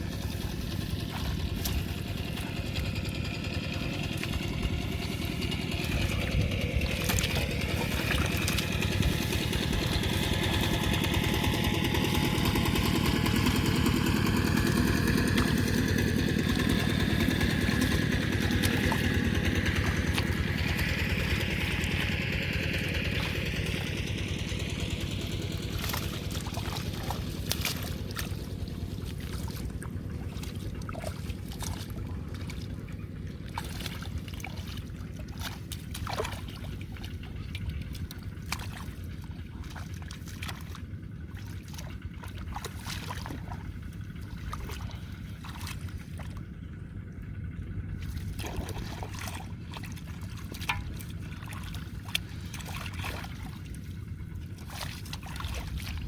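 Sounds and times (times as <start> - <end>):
low rumble: 0.0 - 56.0
water trickling and splashing: 0.0 - 56.0.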